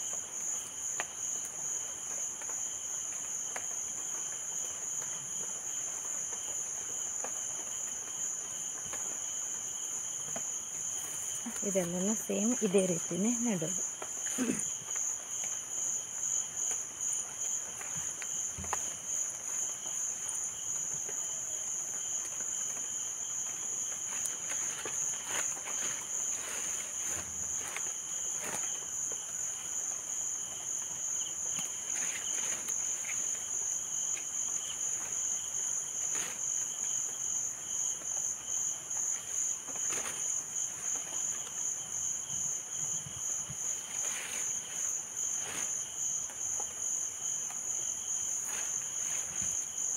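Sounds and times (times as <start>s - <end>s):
insect chorus trilling: 0.0s - 49.9s.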